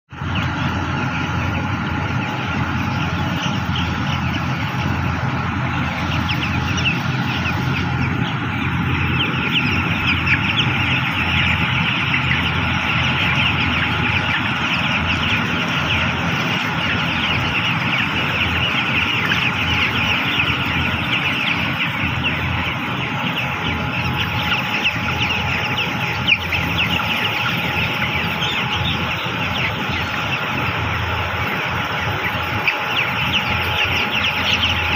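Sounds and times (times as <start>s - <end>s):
chicks peeping: 0.1s - 34.9s
steady low hum: 0.2s - 34.9s.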